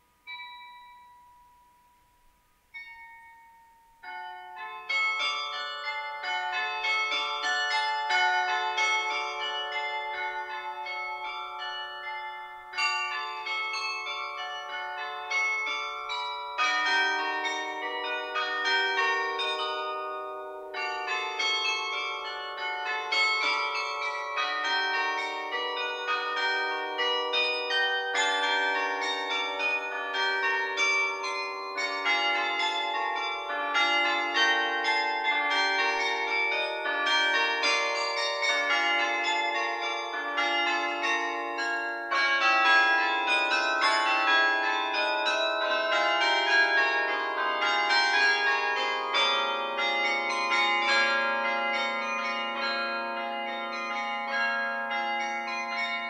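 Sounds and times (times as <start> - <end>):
carillon bells playing: 0.0 - 1.6, 2.7 - 56.0.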